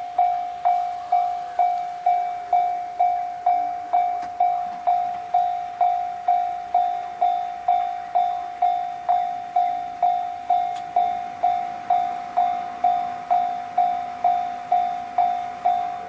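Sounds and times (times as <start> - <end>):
level crossing alarm bell: 0.0 - 16.0.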